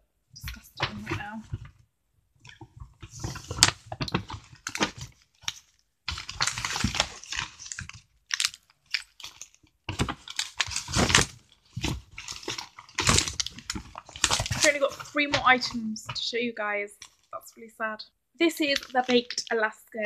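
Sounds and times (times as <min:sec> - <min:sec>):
packaging rustling and crinkling: 0:00.4 - 0:01.8, 0:02.5 - 0:16.3, 0:18.6 - 0:19.6.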